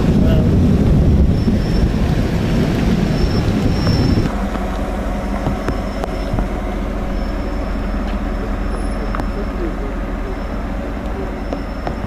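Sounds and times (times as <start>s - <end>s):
low rumble of vehicles: 0.0s - 12.0s
wind buffeting microphone: 0.0s - 12.0s.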